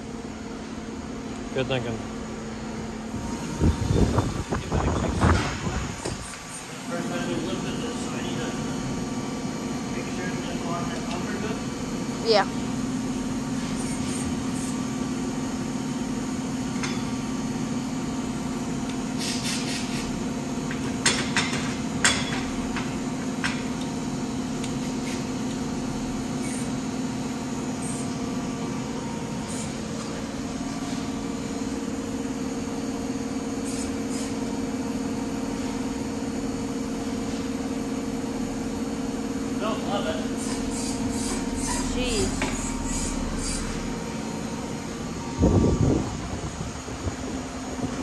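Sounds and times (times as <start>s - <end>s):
steady machine hum: 0.0s - 48.0s.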